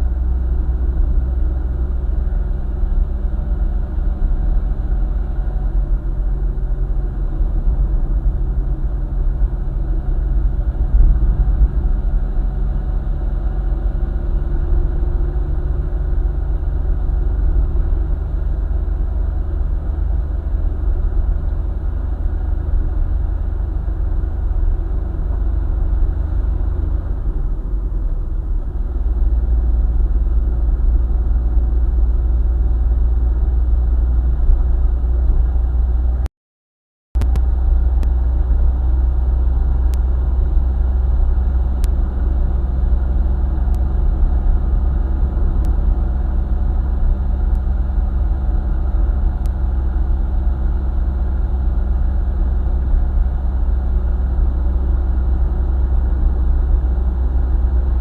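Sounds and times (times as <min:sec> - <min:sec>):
car engine and road noise: 0:00.0 - 0:36.3, 0:37.2 - 0:58.0.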